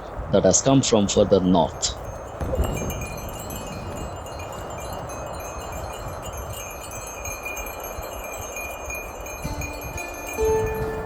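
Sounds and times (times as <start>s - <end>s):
soft chiming tones: 1.8s - 11.0s.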